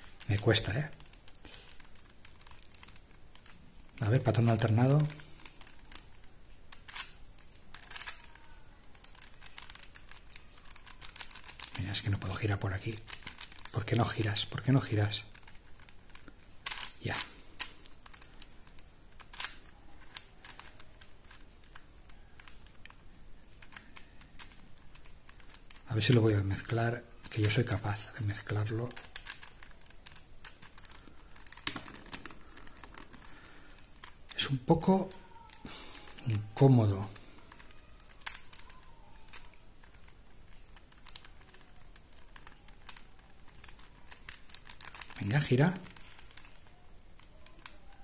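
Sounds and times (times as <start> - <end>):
plastic puzzle clicking and clacking: 0.0 - 48.0.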